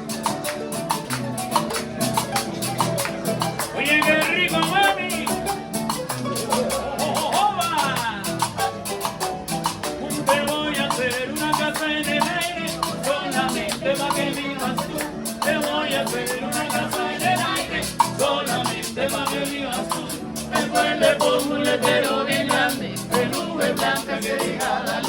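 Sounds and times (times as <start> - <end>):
harp and guitar playing: 0.0 - 25.0
shaker rhythm: 0.0 - 25.0.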